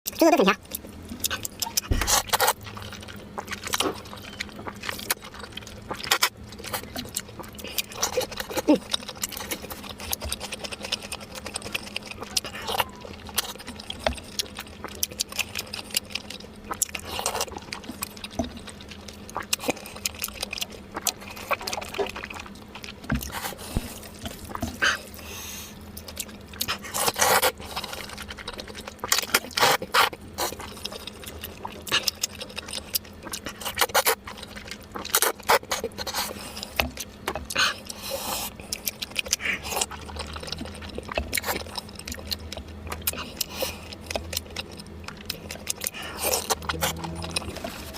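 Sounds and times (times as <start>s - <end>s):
faint steady hum: 0.1s - 47.9s.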